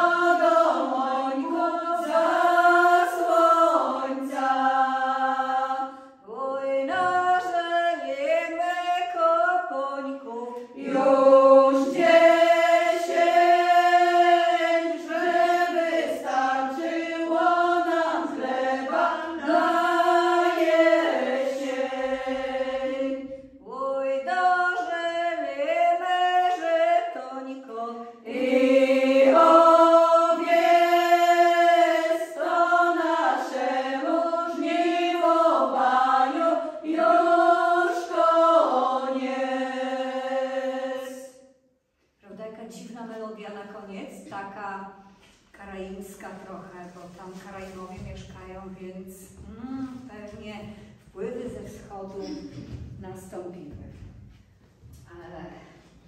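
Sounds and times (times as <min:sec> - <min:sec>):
women singing a cappella: 0:00.0 - 0:41.4, 0:45.7 - 0:54.0.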